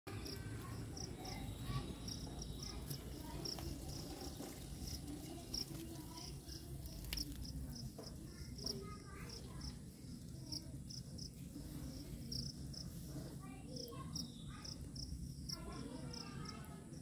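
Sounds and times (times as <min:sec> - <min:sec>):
cricket chirping: 0:00.1 - 0:08.7, 0:09.3 - 0:11.4, 0:12.2 - 0:13.0, 0:13.8 - 0:17.0.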